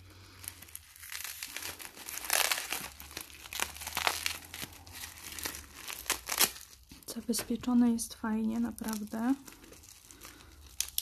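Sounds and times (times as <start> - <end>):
bubble wrap and paper crinkling: 0.0 - 11.0.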